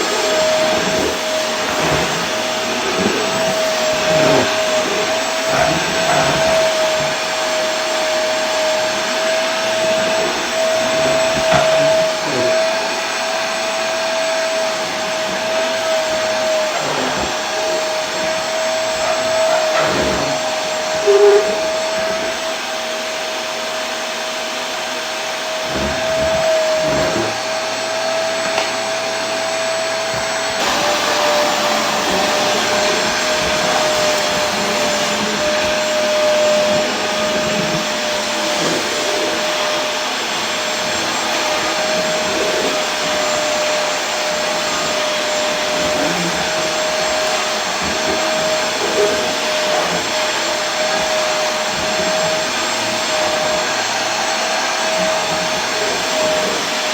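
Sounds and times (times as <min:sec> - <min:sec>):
vacuum cleaner motor running: 0:00.0 - 0:56.9.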